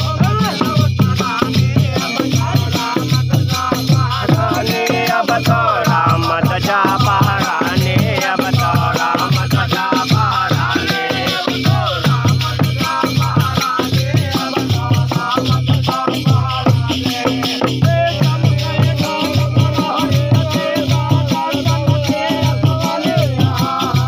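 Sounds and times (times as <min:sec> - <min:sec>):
men singing together: 0:00.0 - 0:24.0.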